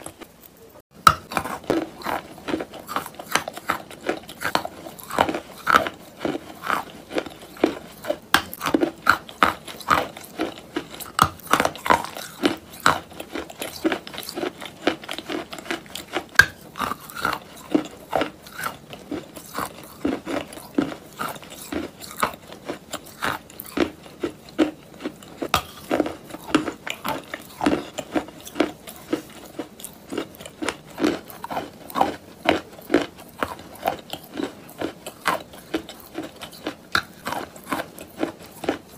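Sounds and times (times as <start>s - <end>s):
chewing crisp crunches: 0.0s - 38.9s.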